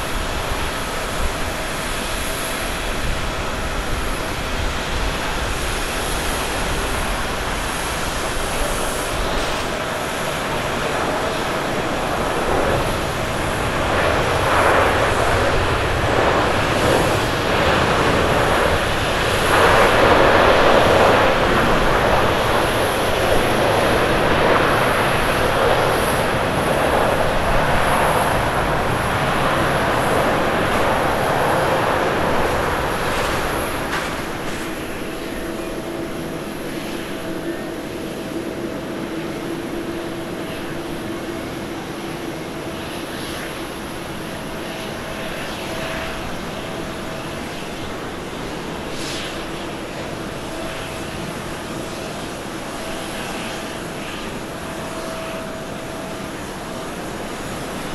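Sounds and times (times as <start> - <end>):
jet engine noise: 0.0 - 57.9.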